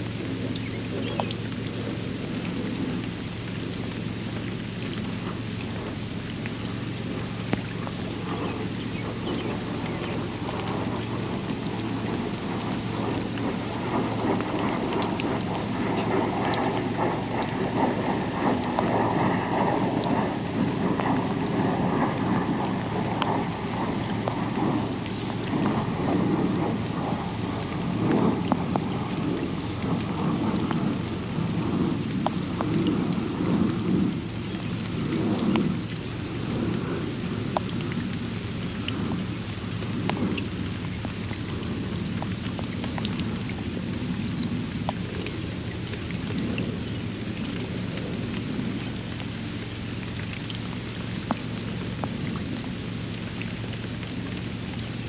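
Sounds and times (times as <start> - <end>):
close raindrops ticking: 0.0 - 55.0
steady rain on a pond: 0.0 - 55.0.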